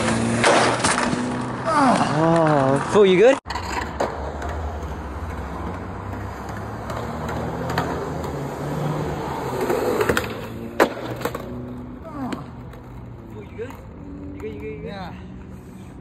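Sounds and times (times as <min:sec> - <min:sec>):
skateboard clacking on concrete: 0:00.0 - 0:08.6, 0:09.4 - 0:14.9
skateboard wheels rolling on concrete: 0:00.0 - 0:16.0.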